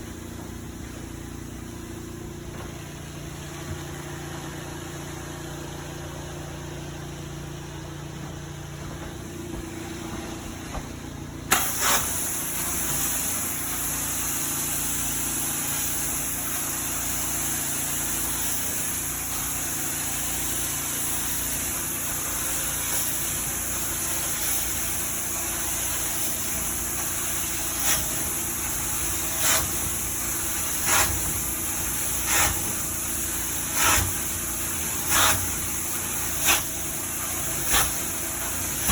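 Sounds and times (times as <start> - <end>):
carpet cleaner motor hum: 0.0 - 38.9
vacuum suction hiss: 6.6 - 38.9.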